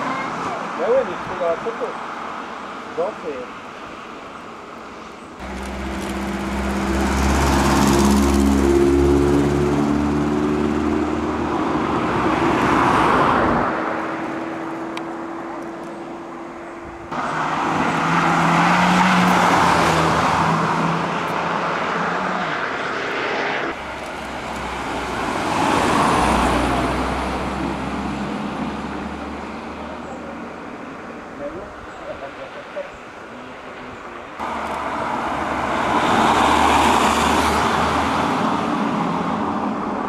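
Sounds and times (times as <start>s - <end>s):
cars driving past: 0.0s - 40.0s.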